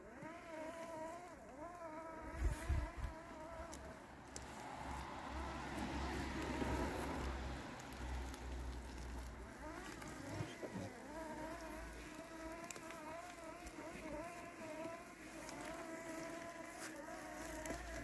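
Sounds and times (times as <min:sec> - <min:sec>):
robotic mower motors whining: 0:00.0 - 0:18.0.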